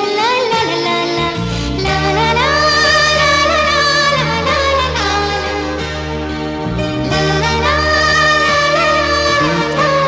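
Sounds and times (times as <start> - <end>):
instrumental accompaniment: 0.0 - 10.0
film song with sliding melody: 0.1 - 10.0.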